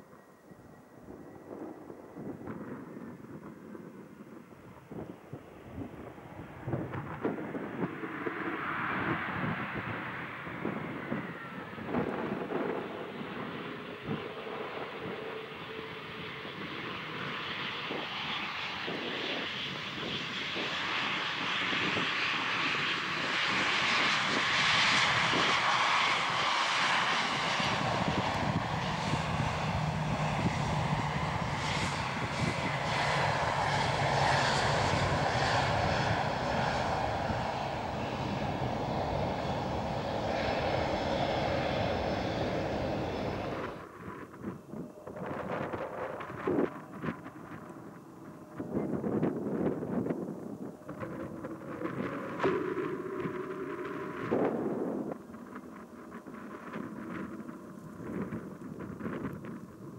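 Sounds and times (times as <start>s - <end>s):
jet airliner landing: 0.0s - 59.9s.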